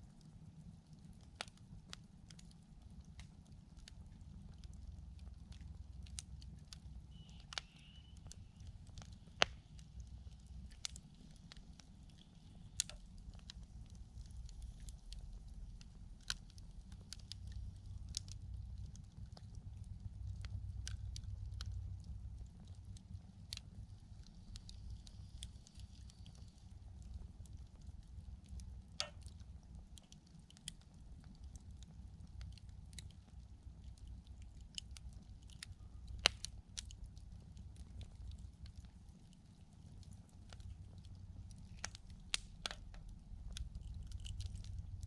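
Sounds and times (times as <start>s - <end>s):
campfire crackling and popping: 0.0s - 45.0s
steady low rumble: 0.0s - 45.0s.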